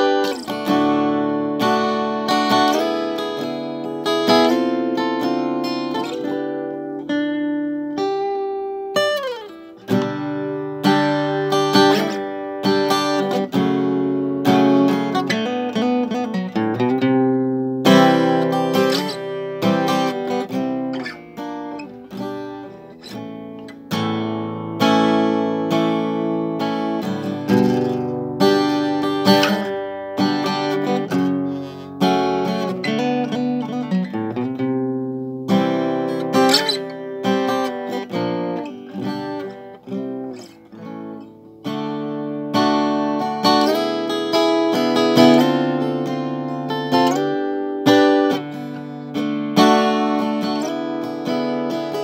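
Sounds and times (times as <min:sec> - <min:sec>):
acoustic guitar playing: 0:00.0 - 0:52.0.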